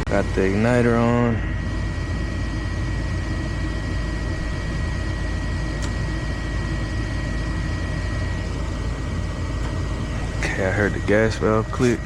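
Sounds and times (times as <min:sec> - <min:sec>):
furnace fan hum and whine: 0:00.0 - 0:12.0.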